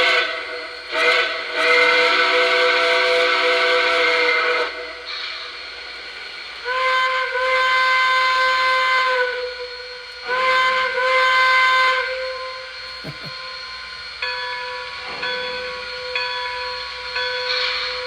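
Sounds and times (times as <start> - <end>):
steady steam hiss: 0.0 - 18.0
steam whistle blasts: 0.0 - 18.0.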